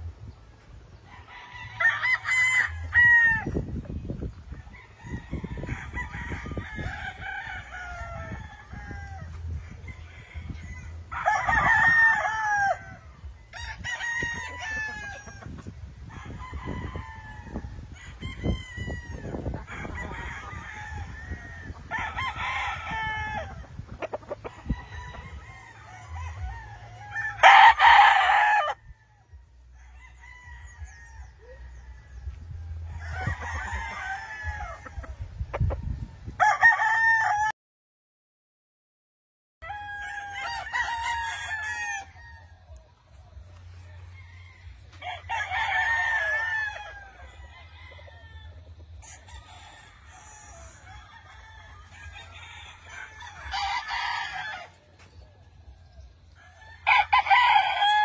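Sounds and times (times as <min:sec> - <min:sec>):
roosters crowing: 0:00.8 - 0:37.5, 0:39.6 - 0:58.0.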